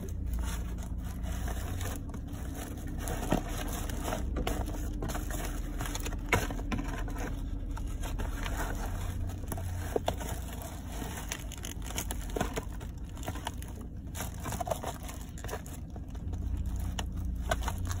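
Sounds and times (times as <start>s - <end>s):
cardboard box being crushed: 0.0s - 18.0s
plastic wrapping crinkling: 0.0s - 18.0s
steady low hum: 0.0s - 18.0s.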